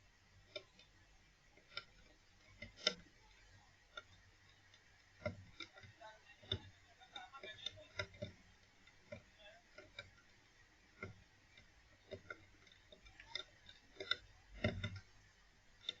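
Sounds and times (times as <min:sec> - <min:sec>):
light clicks and taps: 0:00.0 - 0:16.0.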